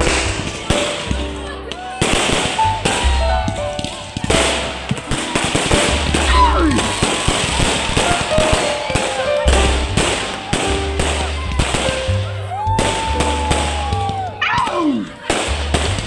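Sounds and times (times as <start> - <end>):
firecrackers crackling: 0.0 - 16.0
loud music with heavy bass: 0.0 - 16.0.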